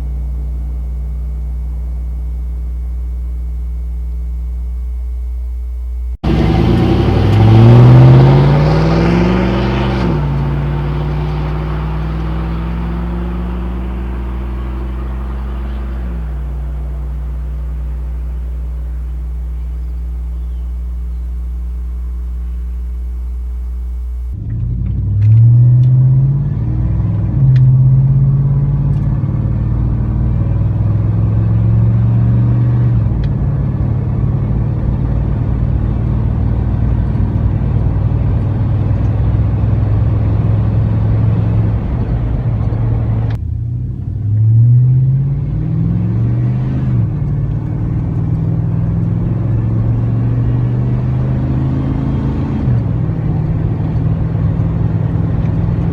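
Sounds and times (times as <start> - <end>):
engine cruising drone: 0.0 - 55.9
engine accelerating: 6.2 - 55.9.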